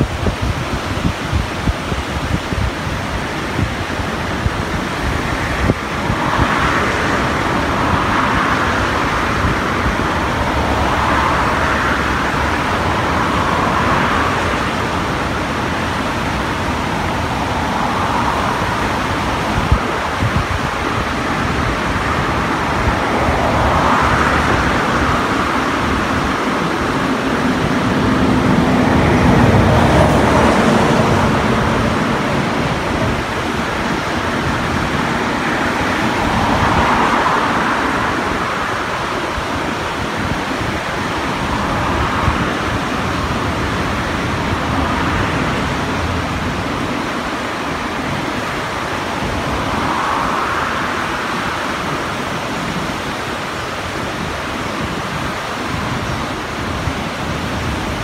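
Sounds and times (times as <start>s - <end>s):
river rushing: 0.0s - 58.0s
vehicle passing: 3.7s - 54.3s.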